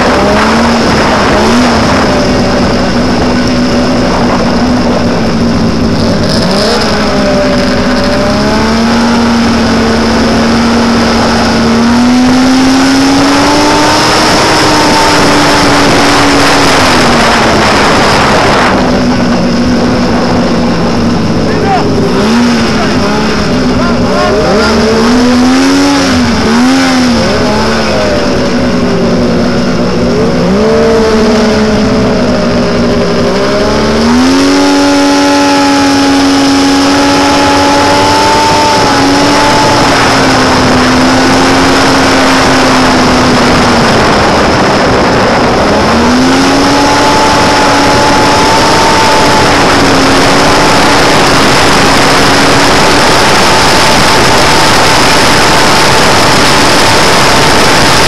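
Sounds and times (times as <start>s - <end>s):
rushing noise: 0.0s - 58.0s
snowmobile engine running: 0.0s - 58.0s.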